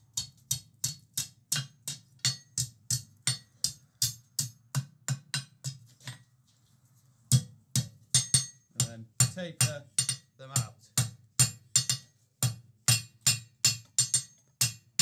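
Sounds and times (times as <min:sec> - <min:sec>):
hammer striking hot steel on anvil: 0:00.2 - 0:05.8, 0:07.3 - 0:15.0.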